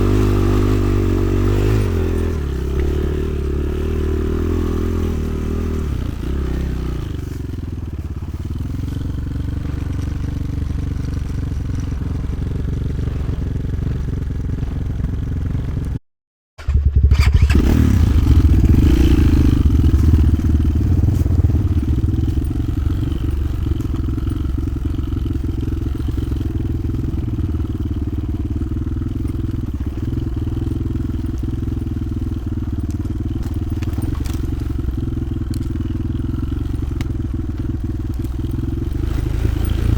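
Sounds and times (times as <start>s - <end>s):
motorcycle engine running: 0.0s - 16.0s, 16.6s - 39.9s.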